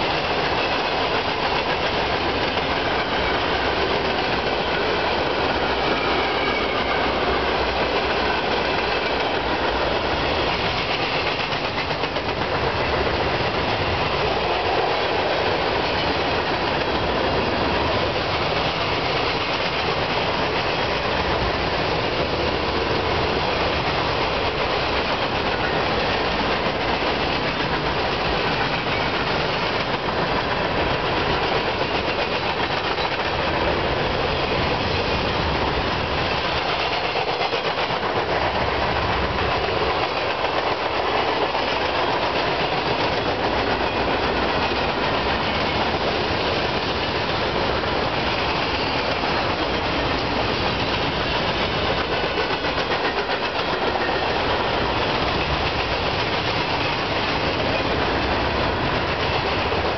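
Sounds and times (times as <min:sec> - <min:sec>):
train wheels running on rails: 0:00.0 - 0:59.9.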